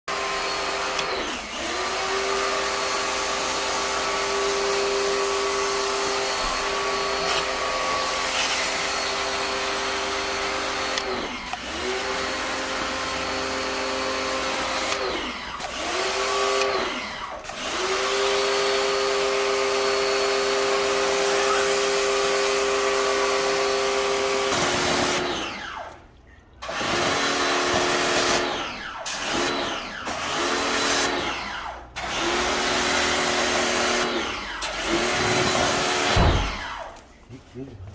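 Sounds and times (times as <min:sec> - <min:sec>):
cleaning machine motor whining: 0:00.1 - 0:26.0, 0:26.7 - 0:36.9.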